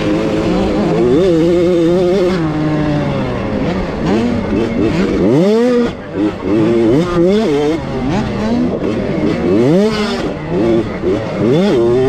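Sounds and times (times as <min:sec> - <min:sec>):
two-stroke motocross bike engine revving: 0:00.0 - 0:12.0.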